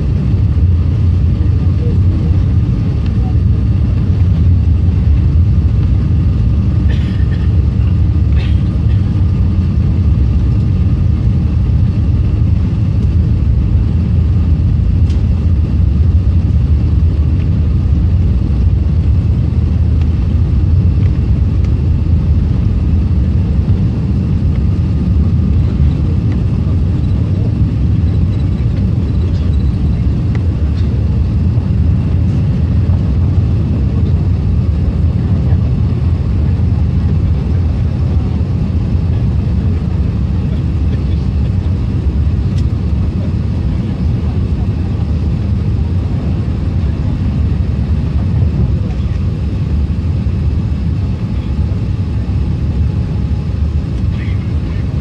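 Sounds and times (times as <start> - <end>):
jet engines deep rumble: 0.0 - 55.0.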